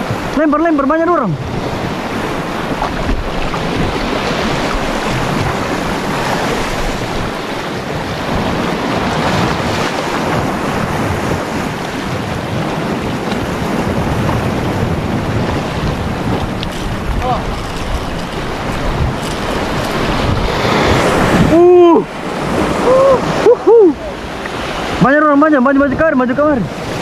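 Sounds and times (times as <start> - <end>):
sea surf washing over rocks: 0.0 - 27.0
wind buffeting microphone: 1.0 - 27.0.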